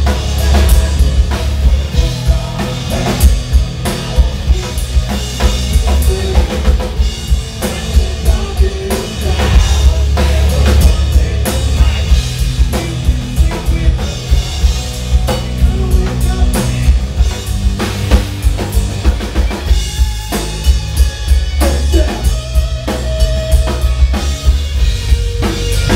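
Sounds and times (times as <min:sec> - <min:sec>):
drum kit pounding: 0:00.0 - 0:25.9
rock band playing: 0:00.0 - 0:25.9.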